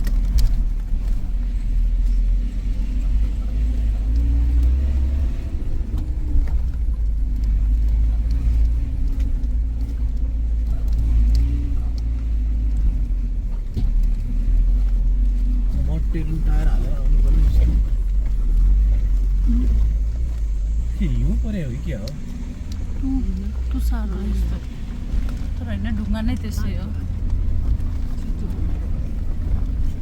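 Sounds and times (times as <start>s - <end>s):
car engine and road rumble: 0.0s - 30.0s
light clicks and rattles: 0.0s - 30.0s.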